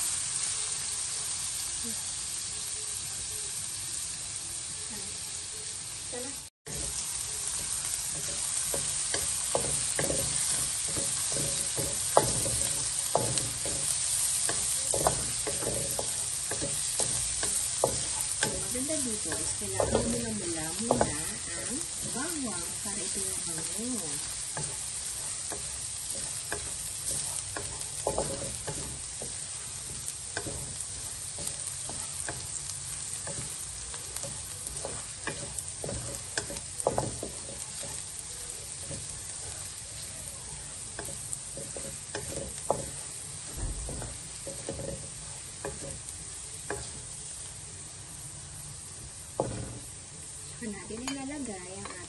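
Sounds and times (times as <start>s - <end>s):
garlic sizzling in hot oil: 0.0s - 52.0s
wooden spatula scraping a pan: 6.7s - 47.3s, 49.4s - 52.0s.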